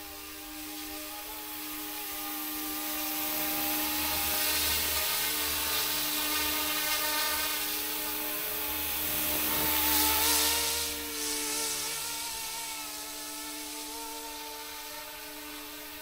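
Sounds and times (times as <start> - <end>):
model helicopter rotors whining: 0.0 - 16.0.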